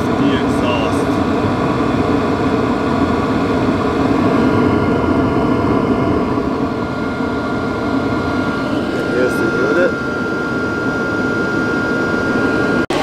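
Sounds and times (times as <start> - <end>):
heater exhaust rushing: 0.0 - 13.0.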